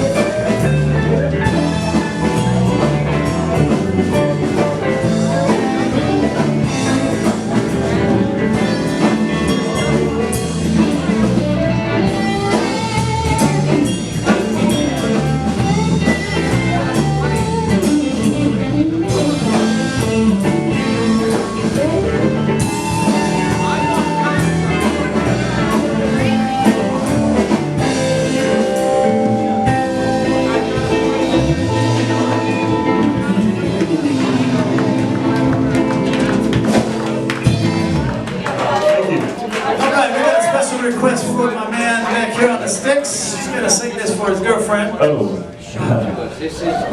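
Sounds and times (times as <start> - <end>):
drum kit beat: 0.0 - 38.8
electric guitar: 0.0 - 39.9
bass guitar: 0.0 - 46.9.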